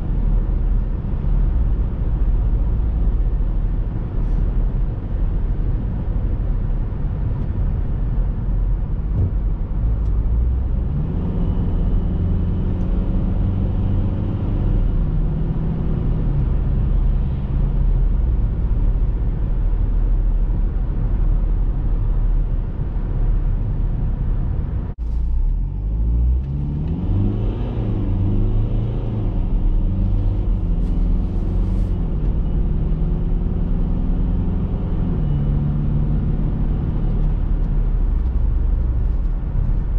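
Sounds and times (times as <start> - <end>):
diesel engine shifting gears: 0.0 - 39.9
road and tyre rumble: 0.0 - 39.9.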